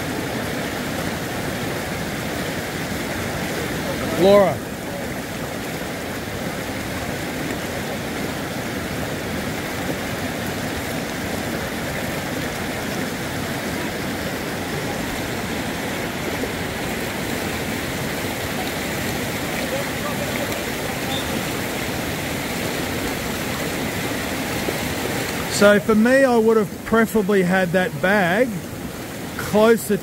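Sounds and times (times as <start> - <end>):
river current rushing: 0.0 - 30.0.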